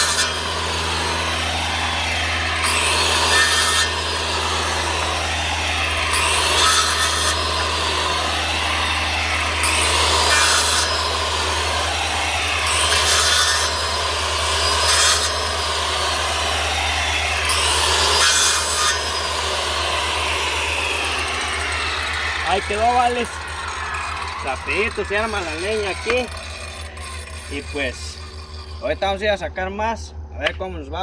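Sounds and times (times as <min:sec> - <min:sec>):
power saw cutting wood: 0:00.0 - 0:30.6.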